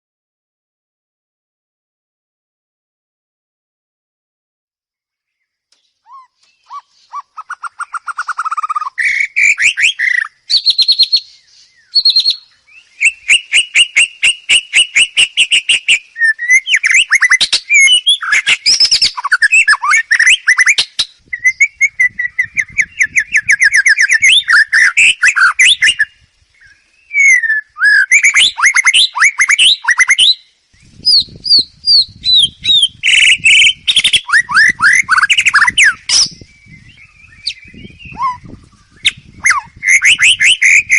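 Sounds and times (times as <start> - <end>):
songbird singing varied trills: 5.1 - 40.9.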